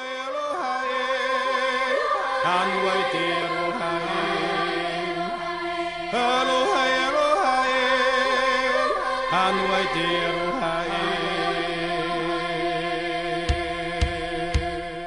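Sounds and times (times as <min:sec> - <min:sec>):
chant-like drone music: 0:00.0 - 0:15.0.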